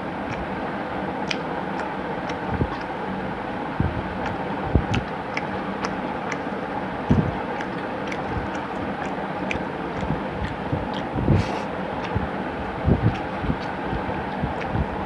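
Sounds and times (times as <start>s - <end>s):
steady background hum: 0.0s - 15.0s
chewing and squishing food: 1.2s - 3.1s, 3.8s - 15.0s.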